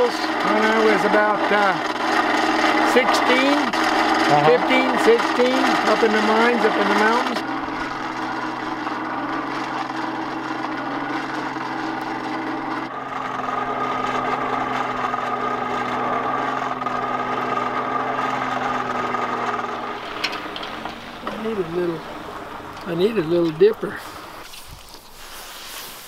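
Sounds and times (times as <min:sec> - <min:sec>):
high whine: 0:00.0 - 0:25.1
hand-cranked blower whirring: 0:00.0 - 0:25.3.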